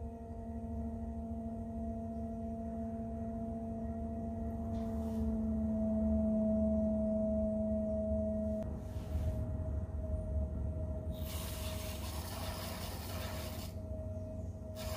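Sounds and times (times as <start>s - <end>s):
pottery wheel motor whine: 0.0s - 14.9s.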